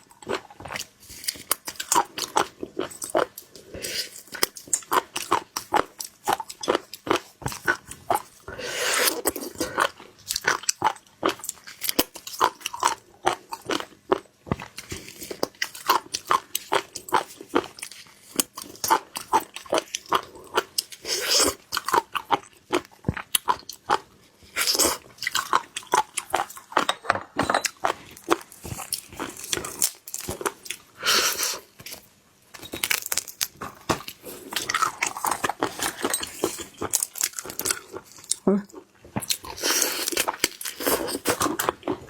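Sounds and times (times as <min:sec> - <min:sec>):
wet crunchy chewing of seafood: 0:00.0 - 0:32.1, 0:32.9 - 0:42.0.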